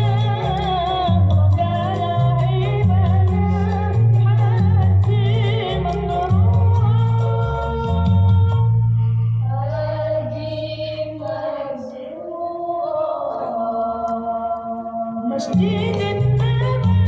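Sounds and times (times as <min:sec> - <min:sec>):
music with sung vocals: 0:00.0 - 0:17.0.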